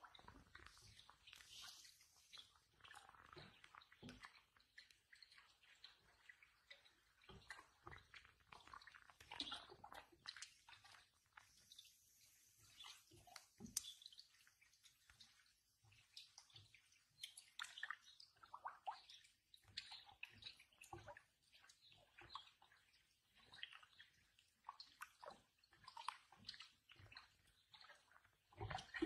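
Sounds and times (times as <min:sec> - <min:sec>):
small water splashes and slurps: 0:00.0 - 0:29.0.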